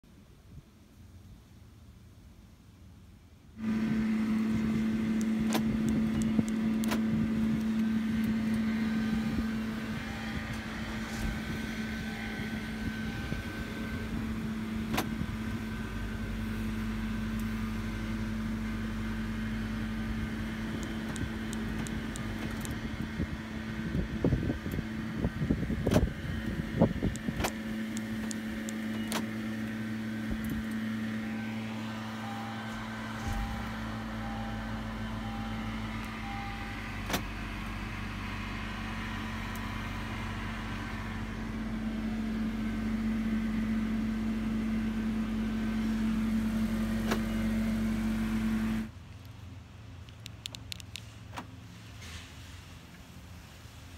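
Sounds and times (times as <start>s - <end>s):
car engine idling: 1.0s - 53.9s.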